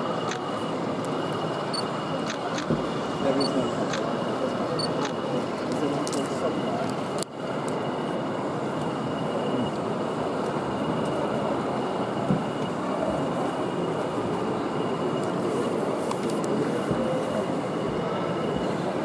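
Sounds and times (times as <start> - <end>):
busy exhibition hall din: 0.0 - 19.0
model trains running: 0.0 - 19.0.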